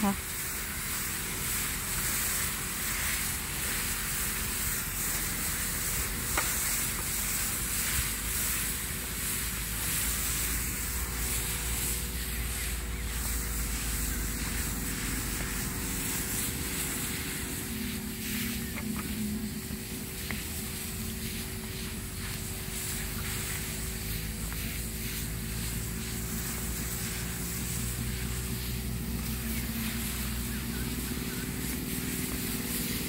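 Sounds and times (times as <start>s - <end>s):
pump motor droning: 0.0s - 33.0s
spray gun hissing: 0.0s - 33.0s.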